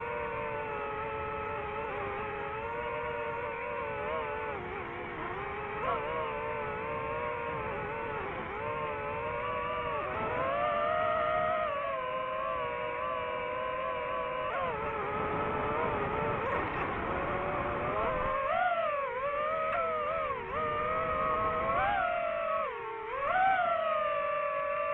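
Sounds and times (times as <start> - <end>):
drone propellers whining: 0.0 - 24.9.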